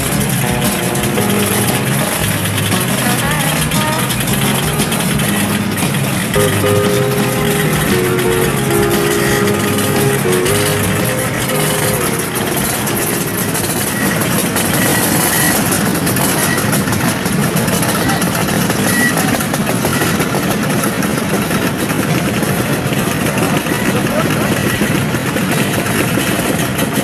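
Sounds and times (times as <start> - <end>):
motor scooter engines running: 0.0 - 27.0.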